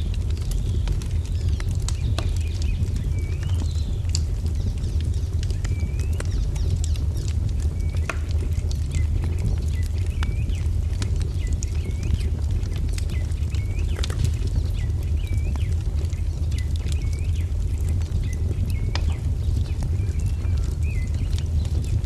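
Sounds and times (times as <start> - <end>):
low rumble: 0.0 - 22.0
wood fire crackling: 0.0 - 22.0.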